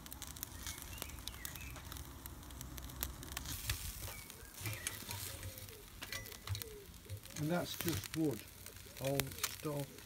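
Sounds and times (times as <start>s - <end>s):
burning wood popping: 0.0s - 10.0s
steak sizzling: 0.0s - 10.0s
wood fire crackling: 0.0s - 10.0s.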